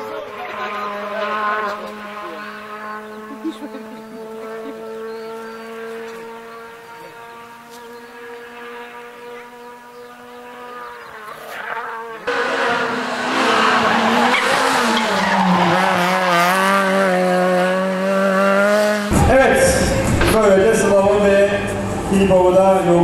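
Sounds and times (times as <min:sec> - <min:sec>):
rally car engine passing: 0:00.0 - 0:23.0.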